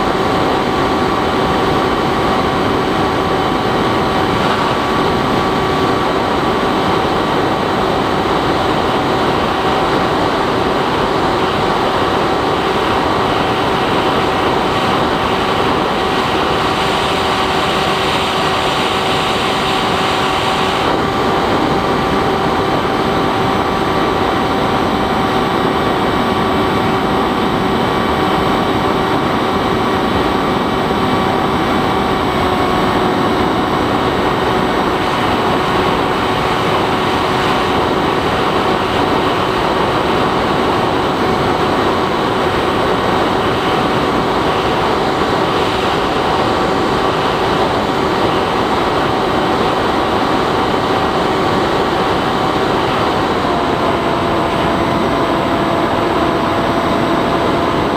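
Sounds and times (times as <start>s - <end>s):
electric motor whine: 0.0s - 57.9s
wind rush: 0.0s - 57.9s.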